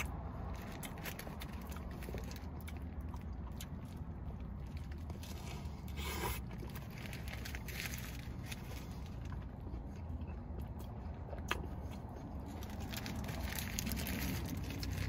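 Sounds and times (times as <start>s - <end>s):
chewing crispy food: 0.0s - 15.0s.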